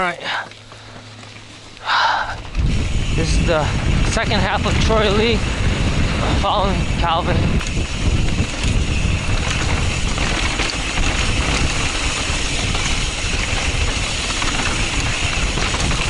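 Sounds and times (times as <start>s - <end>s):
bike rattling clicks: 0.5s - 16.0s
tyre rumble: 2.2s - 16.0s
wind rushing on microphone: 2.2s - 16.0s.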